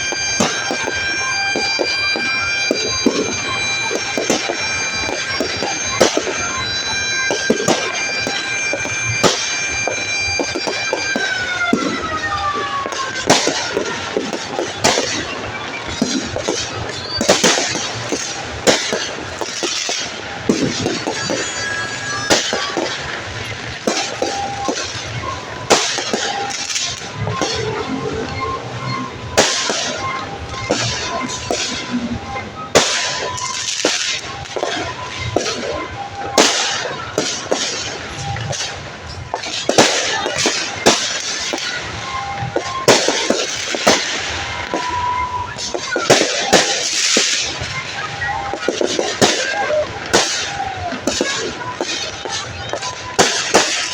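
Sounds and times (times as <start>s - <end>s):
whistle gliding down in pitch: 0.0s - 18.2s, 20.8s - 37.2s, 39.7s - 53.9s
fireworks bangs: 0.0s - 53.9s
fireworks crackling hiss: 0.0s - 53.9s.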